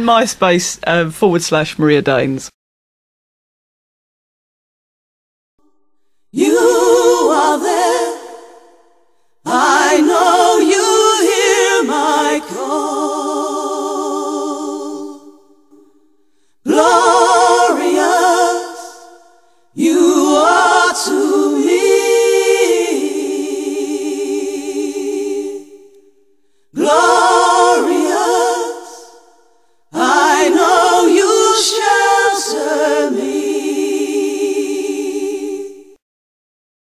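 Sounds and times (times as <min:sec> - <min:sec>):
voices singing in harmony: 0:06.3 - 0:36.0.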